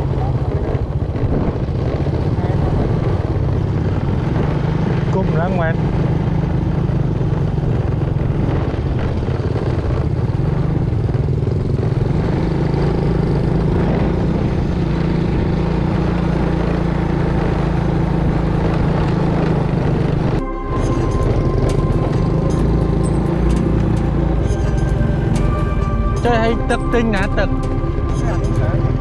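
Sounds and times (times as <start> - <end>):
motorcycle engine running: 0.0 - 29.0
wind noise: 0.0 - 29.0.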